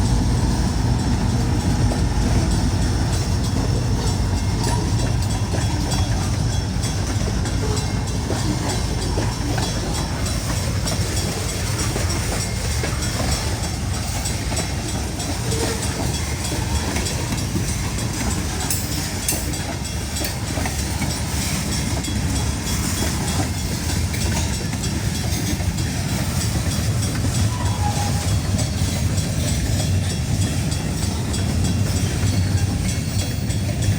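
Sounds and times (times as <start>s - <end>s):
train rolling past: 0.0s - 33.9s
wheels clattering on rails: 0.0s - 33.9s.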